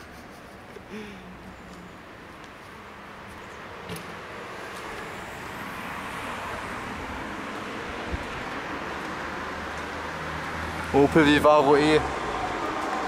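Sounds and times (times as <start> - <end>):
vehicle tyre and road noise: 0.0 - 13.0.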